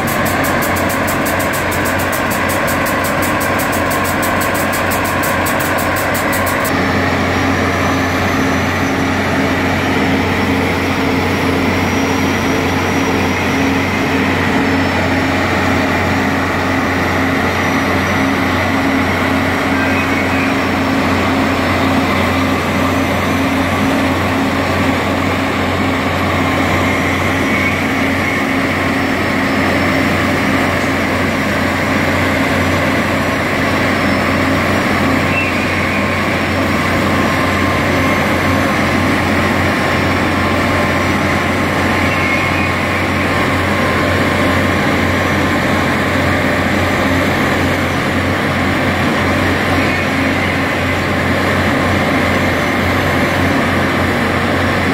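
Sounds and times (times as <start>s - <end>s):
train engines droning: 0.0s - 54.9s.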